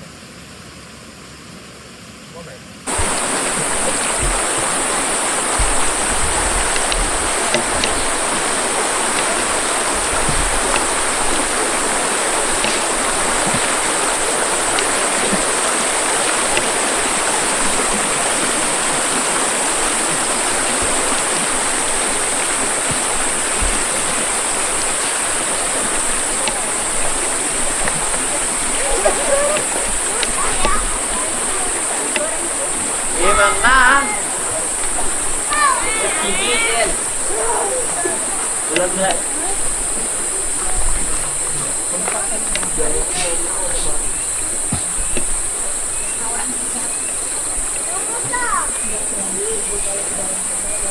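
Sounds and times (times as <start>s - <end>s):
steady high hiss: 0.0s - 50.9s
stream rushing: 2.9s - 50.9s.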